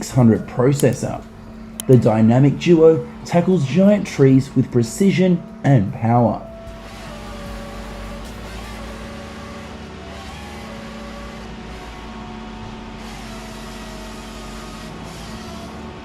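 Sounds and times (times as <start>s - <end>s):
diesel engine droning: 0.0s - 16.0s
processor head working: 0.0s - 16.0s.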